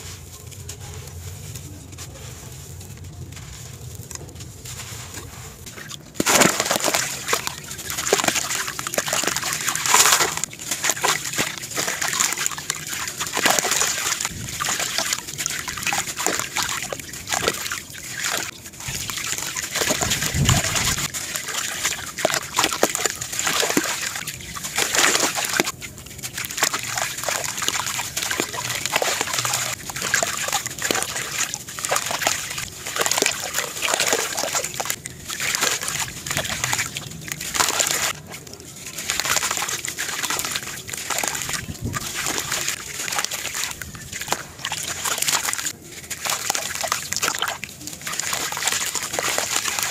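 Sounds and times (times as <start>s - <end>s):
grit pouring into water: 4.8s - 49.9s.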